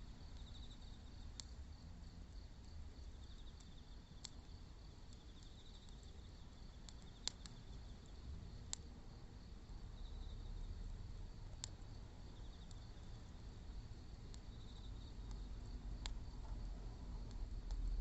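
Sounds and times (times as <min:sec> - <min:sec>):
wood fire crackling and popping: 0:00.0 - 0:10.0, 0:10.8 - 0:18.0
insects chirping: 0:00.0 - 0:18.0.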